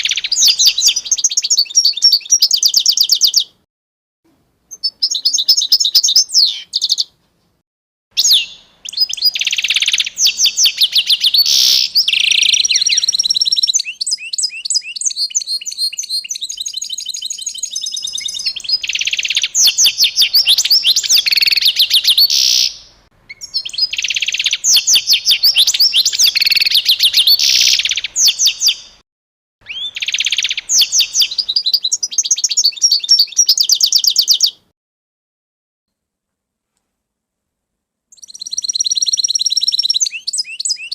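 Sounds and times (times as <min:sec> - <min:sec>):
songbird chirps and trills: 0:00.0 - 0:03.6, 0:04.3 - 0:07.2, 0:08.2 - 0:29.0, 0:29.6 - 0:34.6, 0:38.1 - 0:40.9.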